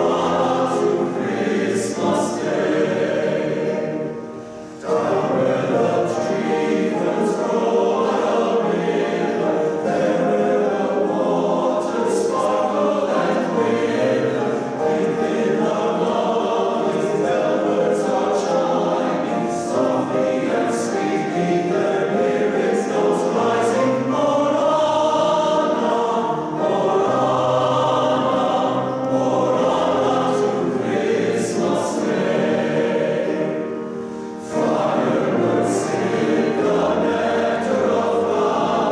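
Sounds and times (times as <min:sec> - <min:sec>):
men's chorus singing a carol: 0:00.0 - 0:38.9.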